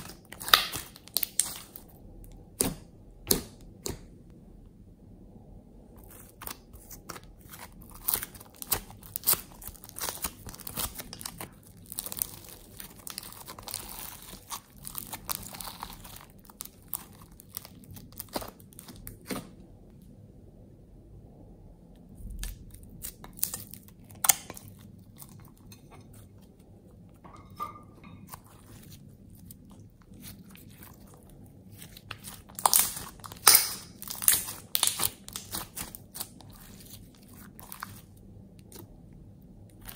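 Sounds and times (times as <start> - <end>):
hands squishing sticky slime: 0.0 - 4.3, 6.0 - 19.6, 22.2 - 25.8, 28.3 - 39.9.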